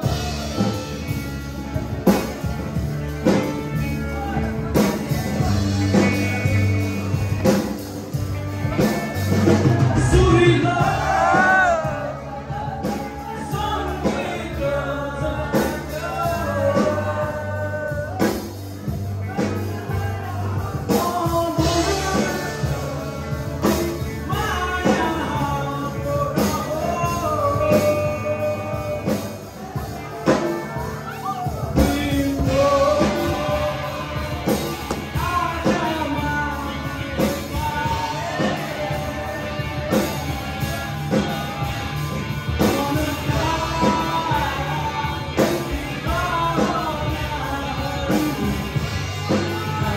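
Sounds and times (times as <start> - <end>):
man singing: 0.0 - 49.9
rock band playing: 0.0 - 49.9.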